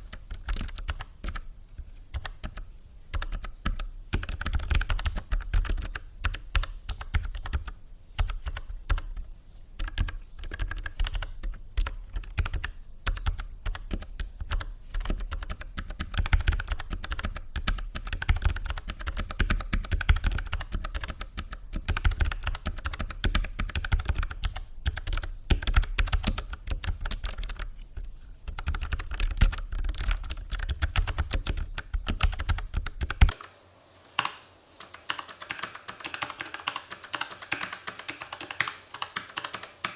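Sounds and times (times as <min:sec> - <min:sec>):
fast typing on clicky keyboard: 0:00.0 - 0:01.5, 0:02.1 - 0:33.4, 0:34.8 - 0:39.9.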